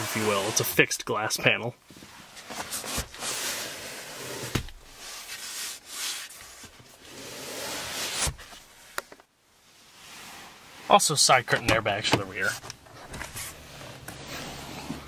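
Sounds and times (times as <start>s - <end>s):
rustling and rubbing: 1.9s - 9.0s, 9.6s - 15.0s.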